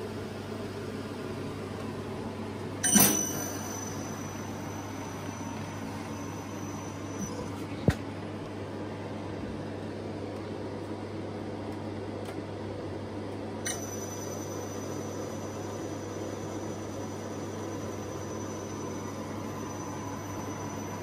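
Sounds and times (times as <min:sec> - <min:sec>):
high steady whine: 0:00.0 - 0:21.0.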